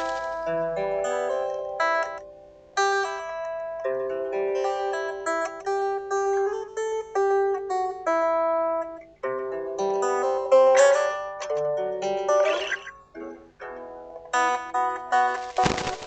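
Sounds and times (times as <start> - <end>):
solo guitar plucked notes: 0.0 - 16.0.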